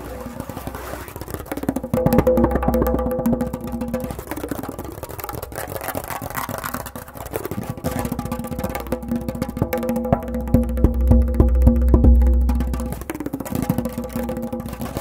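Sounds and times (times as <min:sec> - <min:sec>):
goblet drum finger rolls: 0:00.0 - 0:15.0.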